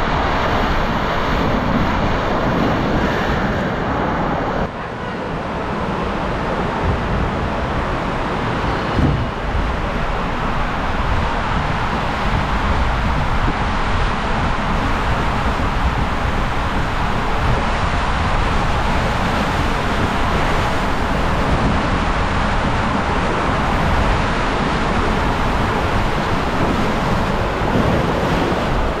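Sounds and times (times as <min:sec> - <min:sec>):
inner tube rumbling: 0:00.0 - 0:29.0
water rushing in slide tube: 0:05.4 - 0:29.0.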